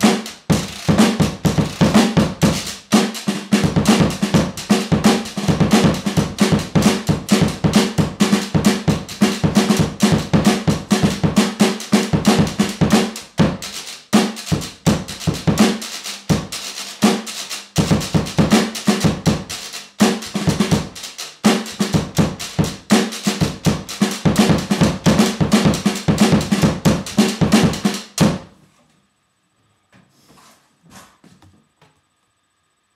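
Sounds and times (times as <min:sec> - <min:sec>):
drums and washboard beats: 0:00.0 - 0:28.5.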